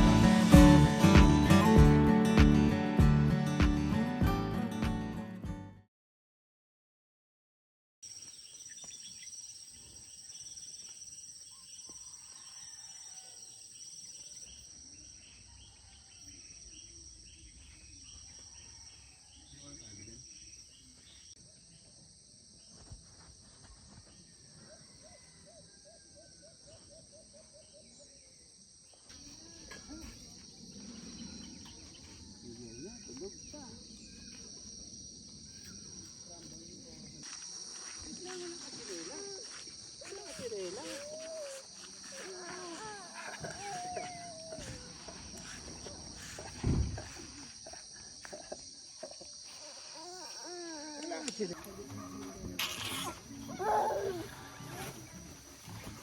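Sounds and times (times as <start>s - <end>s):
insects droning: 8.0s - 56.0s.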